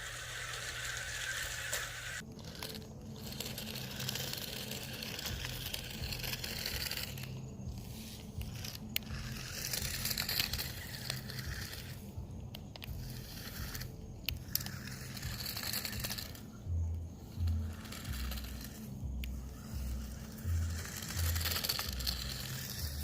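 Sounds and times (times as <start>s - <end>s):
toy car motor whirring: 0.0s - 23.0s.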